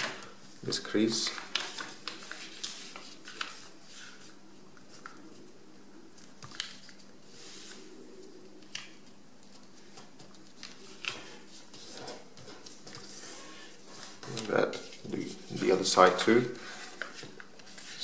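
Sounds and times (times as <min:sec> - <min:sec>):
paper being folded and creased: 0:01.2 - 0:05.6, 0:06.2 - 0:07.9, 0:08.6 - 0:18.0.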